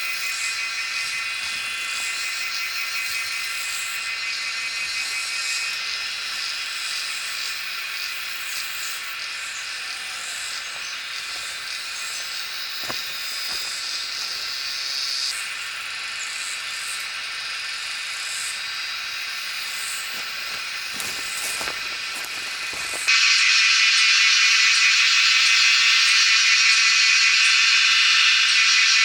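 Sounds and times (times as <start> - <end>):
high-pitched buzzing drone: 0.0 - 29.0.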